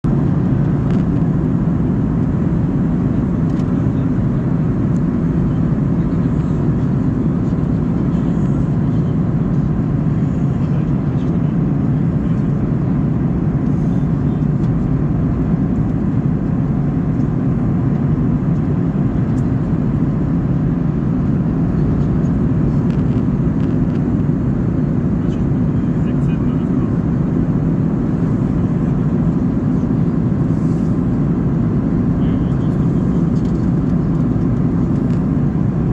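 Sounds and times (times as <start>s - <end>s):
airliner cabin engine drone: 0.0s - 35.9s.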